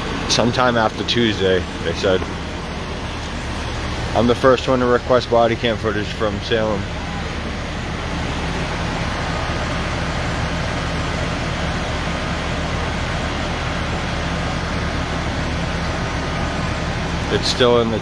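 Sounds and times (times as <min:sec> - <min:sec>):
large vehicle engine idling: 0:00.0 - 0:18.0.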